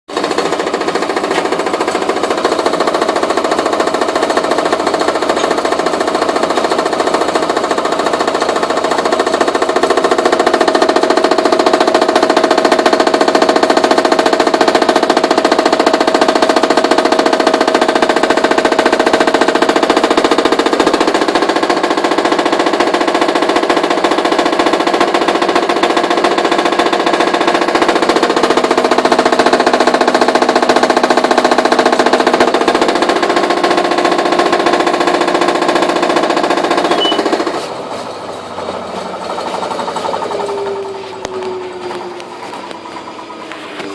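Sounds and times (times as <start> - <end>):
washer-dryer hammering rattle: 0.1 - 43.9.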